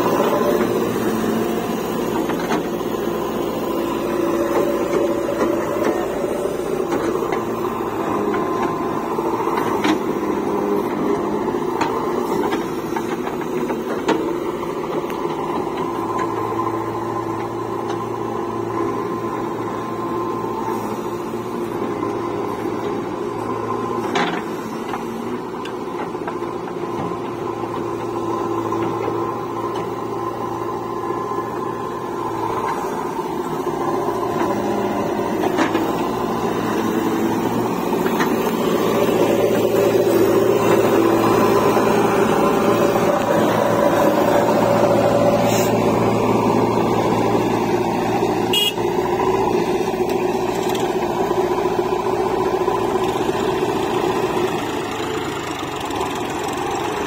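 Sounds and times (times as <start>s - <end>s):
backhoe digging soil: 0.0s - 57.0s
diesel engine running under load: 0.0s - 57.0s.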